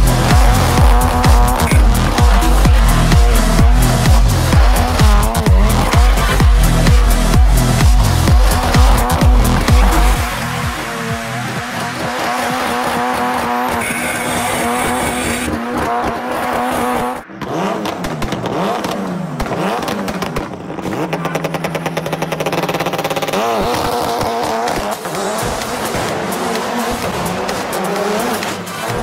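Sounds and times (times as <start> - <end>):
vehicle motor revving: 0.0 - 29.0.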